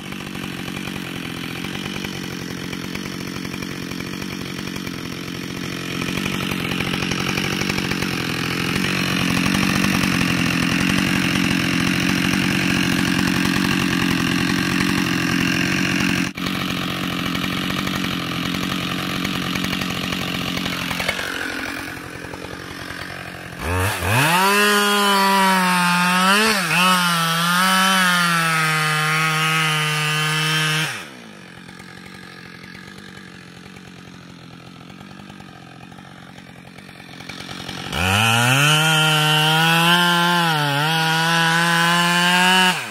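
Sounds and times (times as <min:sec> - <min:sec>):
chainsaw cutting through wood: 0:00.0 - 0:42.9.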